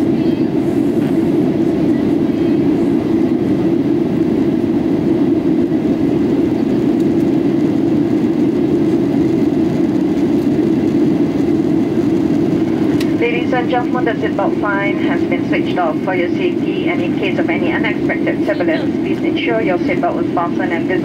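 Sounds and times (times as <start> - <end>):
airplane cabin engine rush: 0.0 - 21.0.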